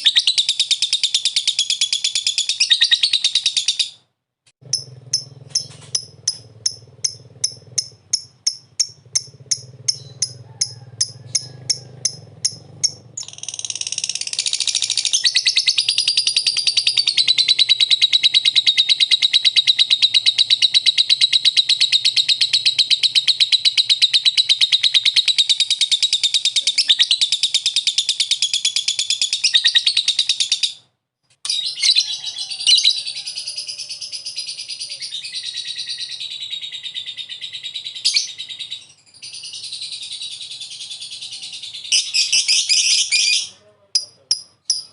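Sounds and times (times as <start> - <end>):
bird chirping and chattering: 0.0 - 4.0, 4.6 - 30.8, 31.4 - 44.9.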